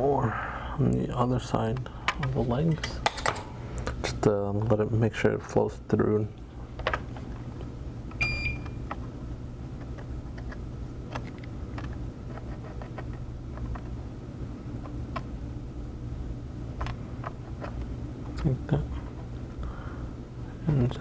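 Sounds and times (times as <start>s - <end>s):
low equipment hum: 0.0s - 21.0s.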